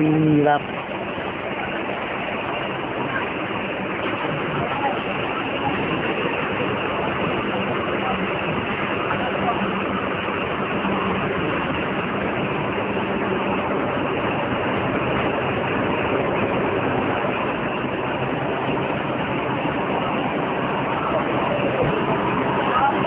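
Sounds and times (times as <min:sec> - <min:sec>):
low hum: 0:00.0 - 0:23.0
vehicle engine idling: 0:00.0 - 0:23.0.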